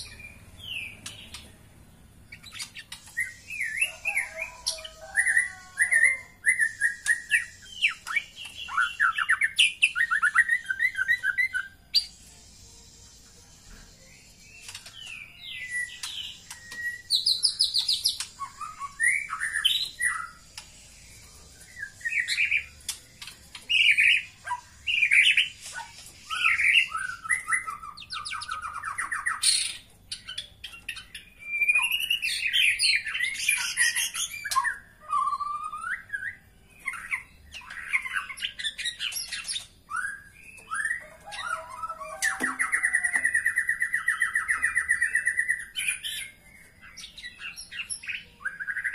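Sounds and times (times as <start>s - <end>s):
bird trill: 0.0s - 48.9s
bird whistling and chirping: 2.3s - 12.2s, 13.7s - 48.9s.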